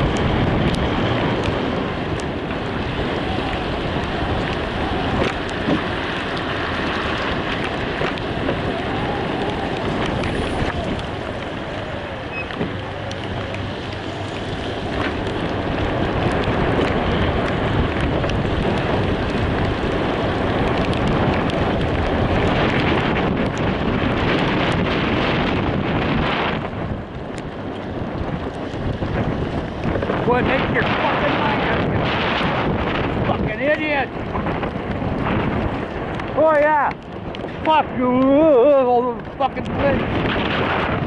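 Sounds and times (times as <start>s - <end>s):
car road and wind noise: 0.0s - 41.0s.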